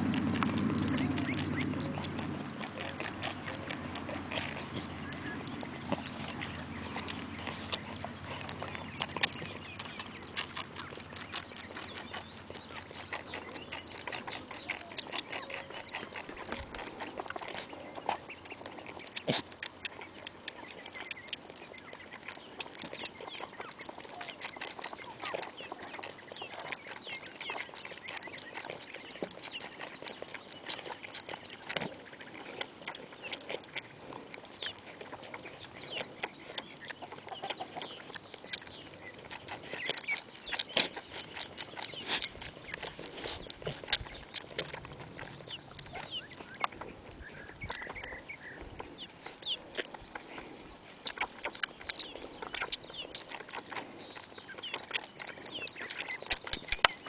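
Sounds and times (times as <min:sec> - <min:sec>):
goat kids sucking on bottles: 0:00.0 - 0:57.0.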